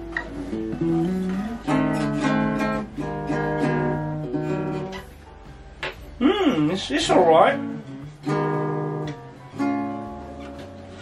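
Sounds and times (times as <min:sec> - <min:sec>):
classical guitar fingerpicking: 0:00.0 - 0:06.8, 0:07.4 - 0:11.0.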